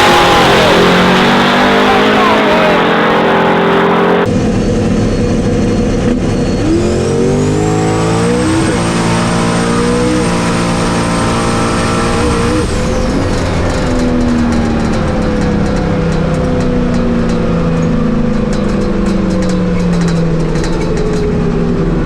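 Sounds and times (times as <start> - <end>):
race truck engine revving: 0.0 - 22.0.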